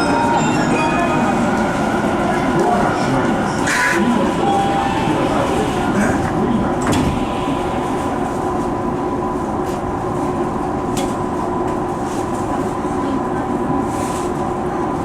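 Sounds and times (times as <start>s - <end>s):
electric train hum and rumble: 0.0s - 15.0s.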